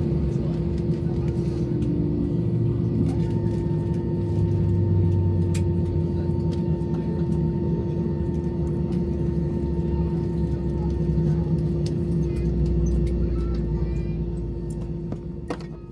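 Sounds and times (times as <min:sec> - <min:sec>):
aircraft cabin hum: 0:00.0 - 0:15.9.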